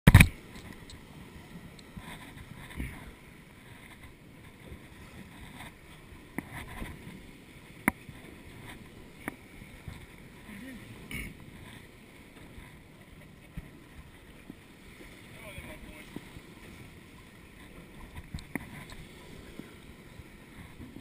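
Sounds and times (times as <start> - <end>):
wind: 0.0 - 21.0
rough sea: 0.1 - 21.0.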